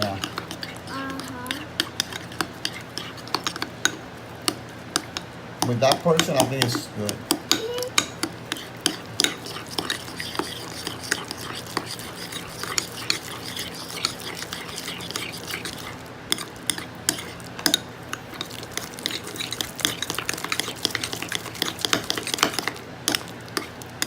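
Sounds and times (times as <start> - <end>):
slime being stirred: 0.0 - 24.0.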